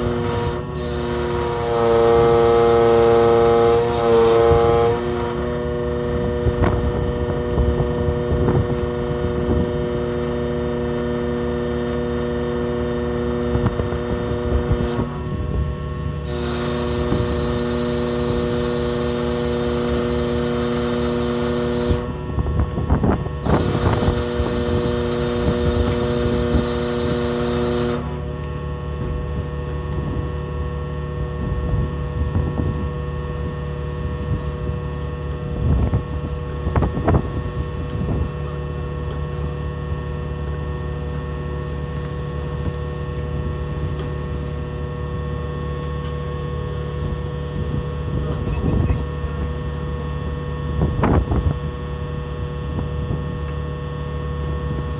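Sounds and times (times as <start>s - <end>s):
hydraulic crane humming drone: 0.0s - 54.9s
low engine rumble: 0.0s - 54.9s.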